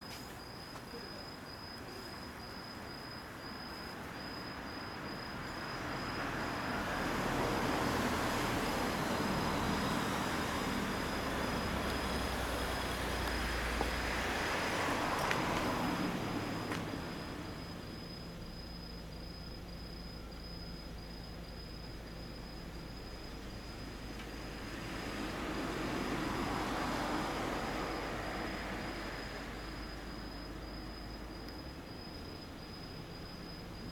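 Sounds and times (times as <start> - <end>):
road vehicle passing: 2.9 - 33.9.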